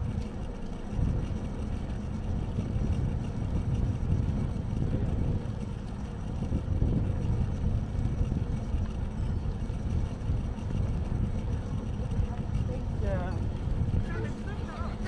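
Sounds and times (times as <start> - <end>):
road noise: 0.0 - 15.0
wind rumbling on microphone: 0.0 - 15.0.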